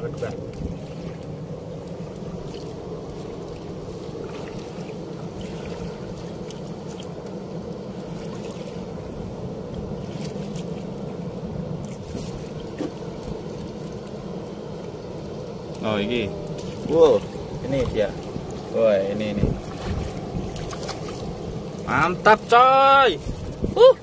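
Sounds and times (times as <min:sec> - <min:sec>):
river rushing against canoe hull: 0:00.0 - 0:24.0.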